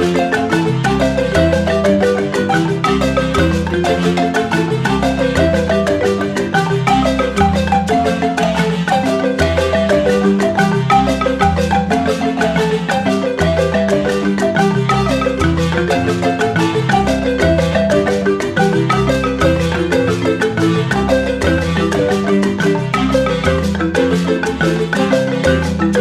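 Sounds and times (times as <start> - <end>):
marimba melody: 0.0 - 26.0.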